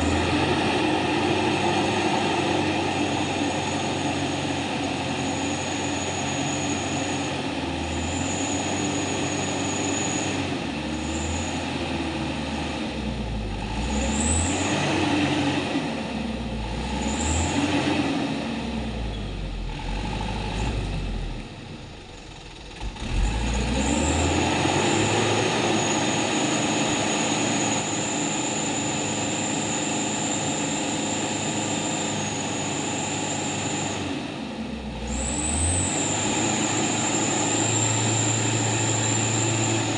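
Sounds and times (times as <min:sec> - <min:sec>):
truck engine revving: 0:00.0 - 0:21.6, 0:22.3 - 0:39.9.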